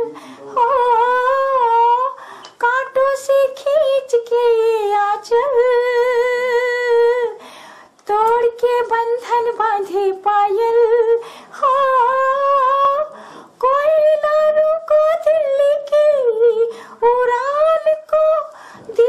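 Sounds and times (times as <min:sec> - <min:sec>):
woman singing unaccompanied: 0:00.0 - 0:07.4, 0:08.0 - 0:19.0.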